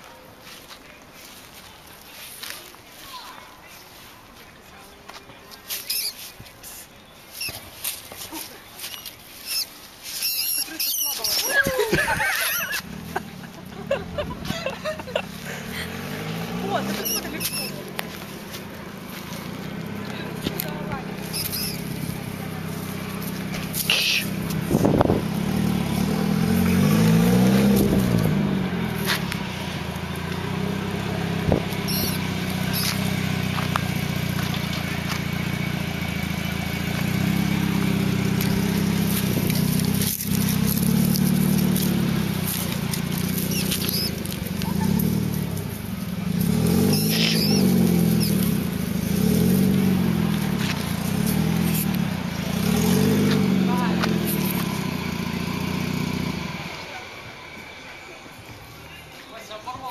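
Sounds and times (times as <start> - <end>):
engine revving: 10.1 - 59.0.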